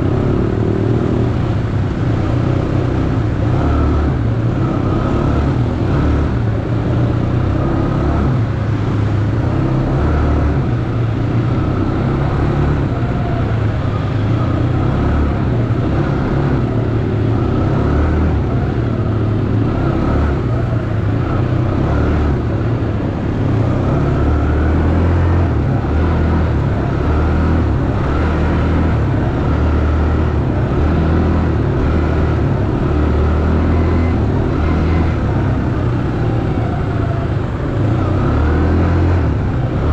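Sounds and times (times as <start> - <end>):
atv engine rumbling: 0.0 - 39.9.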